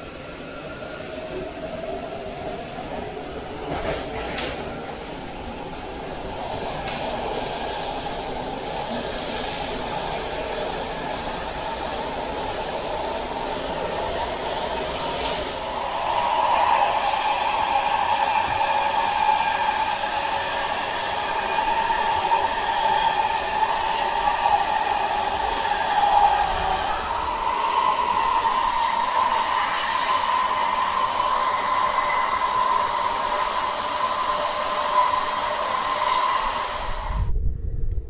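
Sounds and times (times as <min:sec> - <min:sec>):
subway car rumble: 0:00.0 - 0:38.0.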